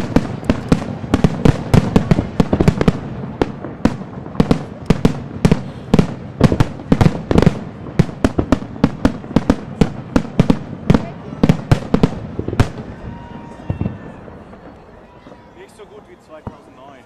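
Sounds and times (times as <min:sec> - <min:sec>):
firework shell bursts: 0:00.0 - 0:16.8.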